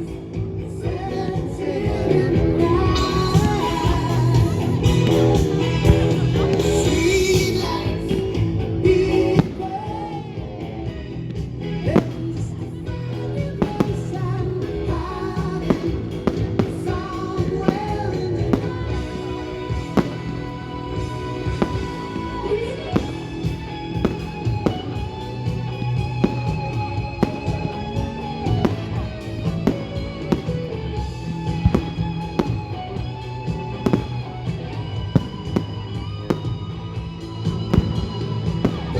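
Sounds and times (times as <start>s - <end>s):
pop-rock song with singing: 0.0s - 38.9s
firework bangs and cracks: 3.0s - 10.1s, 10.9s - 38.9s.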